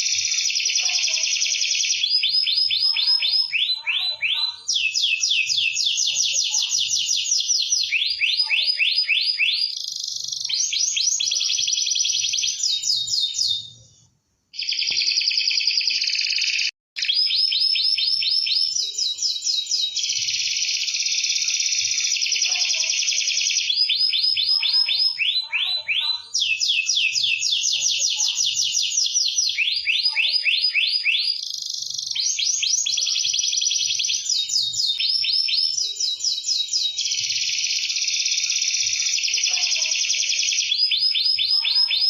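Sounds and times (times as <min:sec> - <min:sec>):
canary singing trills: 0:00.0 - 0:13.9, 0:14.6 - 0:42.0.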